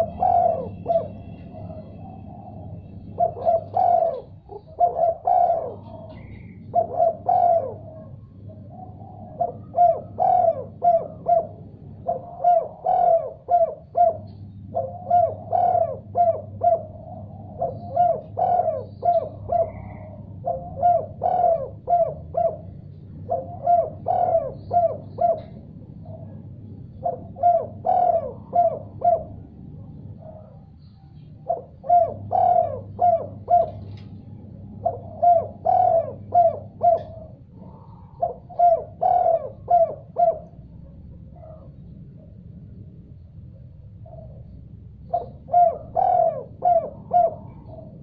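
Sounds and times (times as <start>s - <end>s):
dove cooing: 0.0s - 48.0s
faint low hum: 0.0s - 48.0s.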